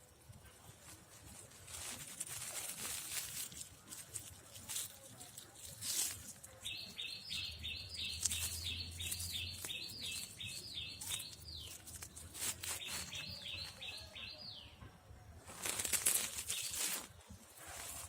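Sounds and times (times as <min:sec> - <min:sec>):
rustling: 0:00.0 - 0:14.3, 0:15.4 - 0:18.0
small bird calling: 0:03.0 - 0:18.0.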